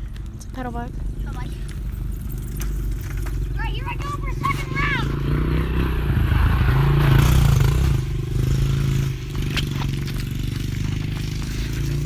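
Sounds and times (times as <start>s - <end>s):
dirt bike engine revving: 1.7s - 12.0s.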